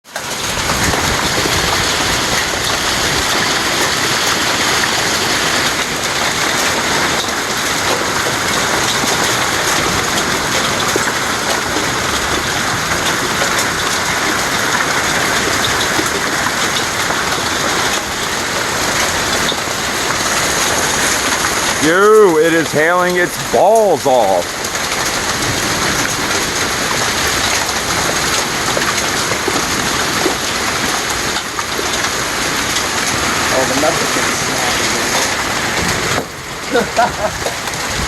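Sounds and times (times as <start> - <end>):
heavy hail striking surfaces: 0.1 - 38.0.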